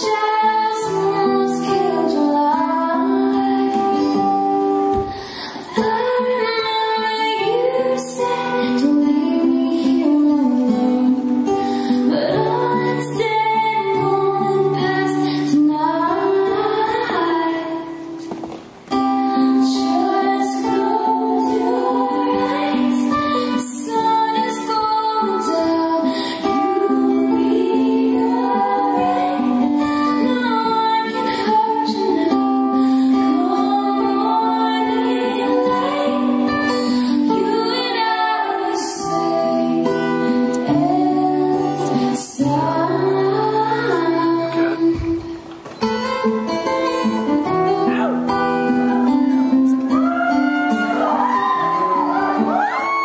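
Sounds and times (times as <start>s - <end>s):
women singing slow song: 0.0s - 18.2s, 18.9s - 45.4s
acoustic guitar: 0.0s - 53.0s.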